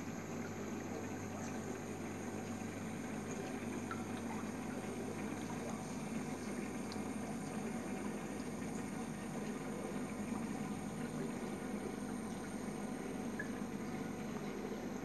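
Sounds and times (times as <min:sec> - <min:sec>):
low pump hum: 0:00.0 - 0:15.0.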